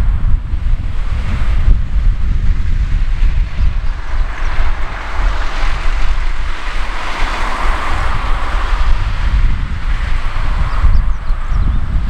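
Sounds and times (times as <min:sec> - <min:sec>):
jet engine rush: 0:00.0 - 0:12.0
wind rumbling on microphone: 0:00.0 - 0:12.0.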